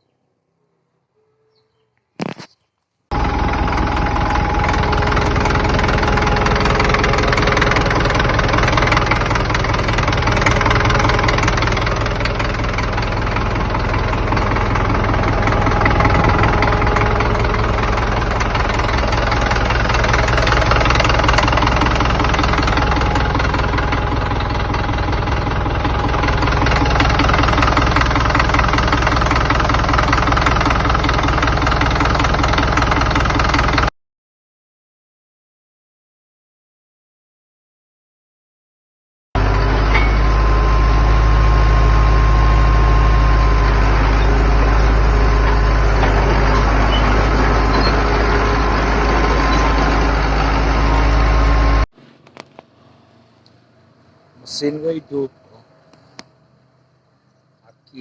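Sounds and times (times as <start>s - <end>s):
bulldozer diesel engine running: 3.1s - 33.9s, 39.4s - 58.0s.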